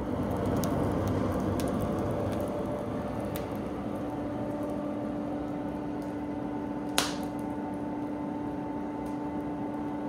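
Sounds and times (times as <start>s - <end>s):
fire crackle: 0.0s - 10.0s
forge fire rushing: 0.0s - 10.0s
low steady hum: 0.0s - 10.0s.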